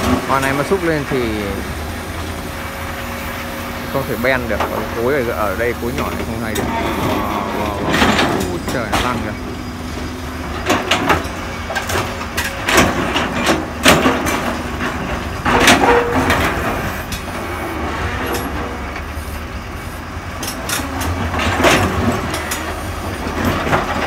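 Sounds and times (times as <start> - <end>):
excavator diesel engine under load: 0.0 - 24.0.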